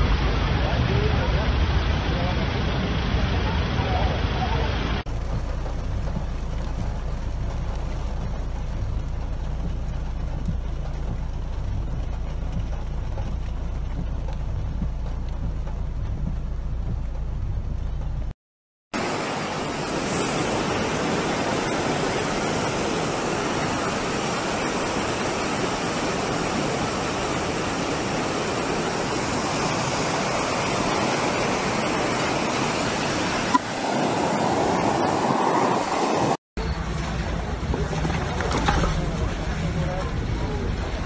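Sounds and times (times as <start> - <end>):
floodwater torrent rushing: 0.0 - 18.0, 18.9 - 41.0.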